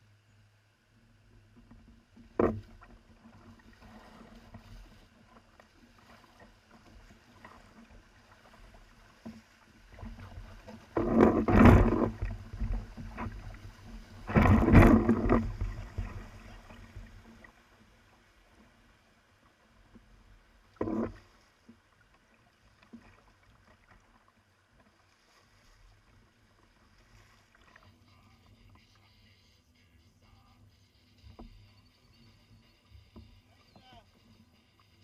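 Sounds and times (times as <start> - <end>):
water sloshing around kayak: 1.0 - 35.0.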